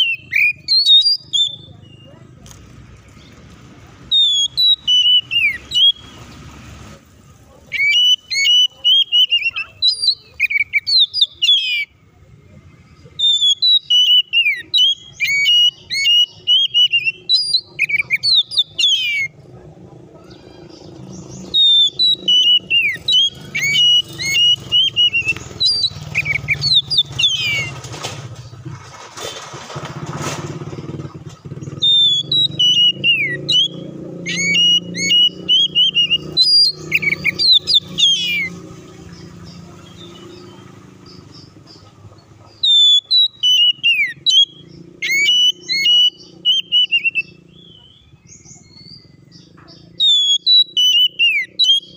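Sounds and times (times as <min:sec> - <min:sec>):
bird singing whistles and chatter: 0:00.0 - 0:06.5, 0:07.2 - 0:28.6, 0:30.9 - 0:51.9.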